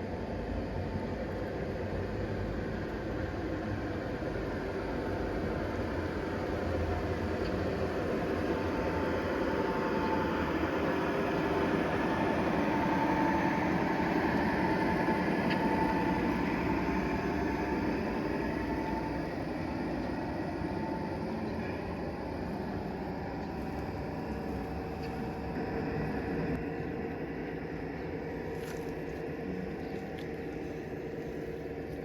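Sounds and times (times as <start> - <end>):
train rolling rumble: 0.0 - 32.0.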